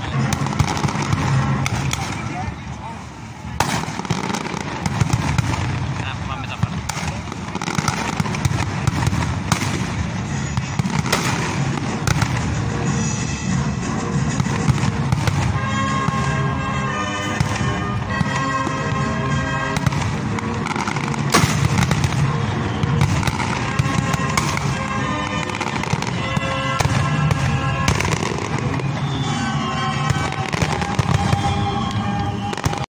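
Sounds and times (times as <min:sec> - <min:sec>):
fireworks bangs and crackles: 0:00.0 - 0:32.9
music playing: 0:00.0 - 0:32.9.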